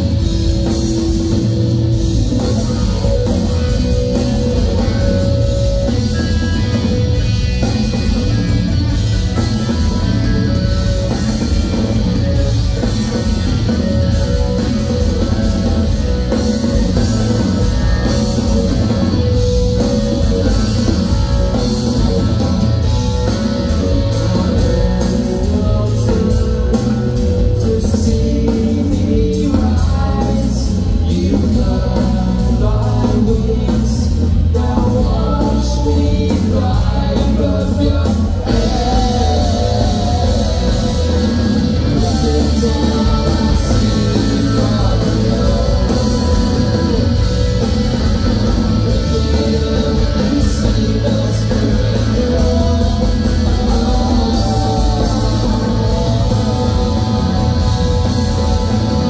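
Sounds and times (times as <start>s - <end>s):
bass guitar: 0.0s - 59.0s
drums: 0.0s - 59.0s
electric guitars: 0.0s - 59.0s
live rock band playing loud: 0.0s - 59.0s
person singing: 9.4s - 59.0s.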